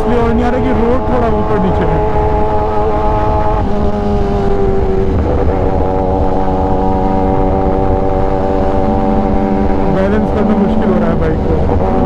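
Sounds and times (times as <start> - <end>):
motorcycle engine cruising: 0.0 - 12.0
wind rumble on microphone: 0.0 - 12.0.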